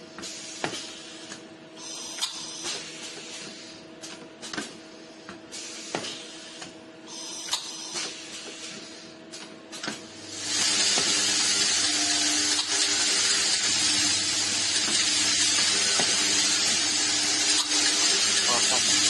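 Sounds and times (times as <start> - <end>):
machine hissing with low hum: 0.0 - 19.0.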